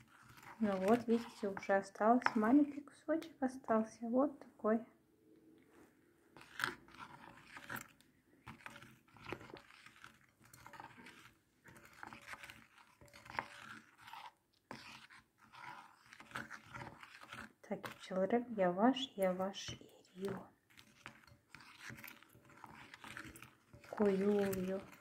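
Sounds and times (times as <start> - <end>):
spoon scraping glass bowl: 0.0 - 3.0, 6.4 - 25.0.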